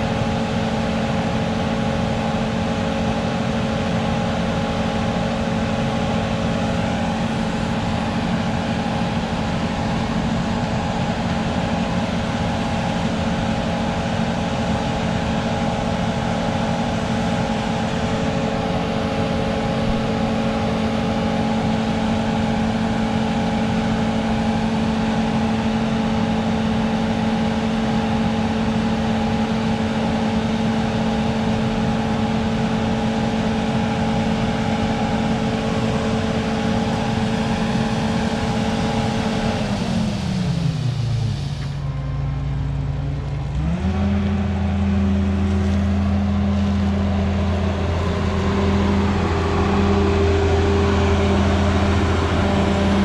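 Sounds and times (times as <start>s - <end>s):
combine engine whining: 0.0s - 53.0s
deep steady engine note: 0.0s - 53.0s.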